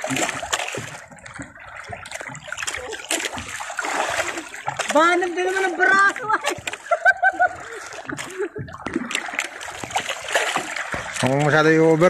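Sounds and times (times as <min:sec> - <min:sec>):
waves slapping against boat hull: 0:00.0 - 0:12.0.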